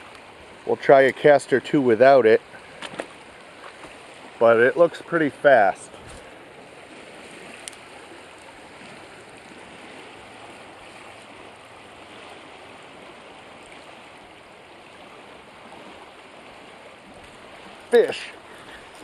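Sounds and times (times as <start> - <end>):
river current rushing: 0.0 - 19.0.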